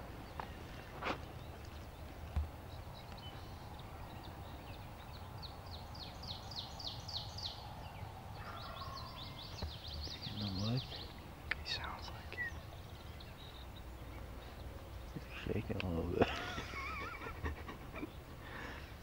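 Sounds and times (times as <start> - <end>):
small songbird singing: 0.0 - 17.2.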